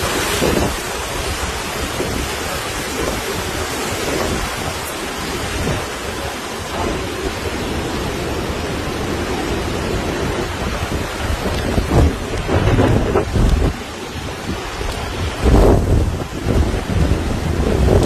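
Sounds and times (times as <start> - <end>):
driving rain: 0.0 - 18.0
hurricane wind: 0.0 - 18.0
wind gusts on microphone: 0.0 - 18.0.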